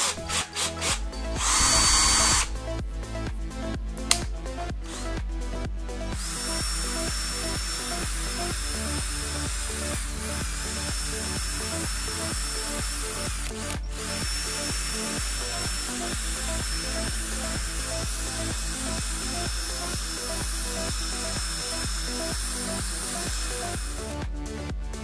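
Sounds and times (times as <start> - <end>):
music with steady beat: 0.0 - 25.0.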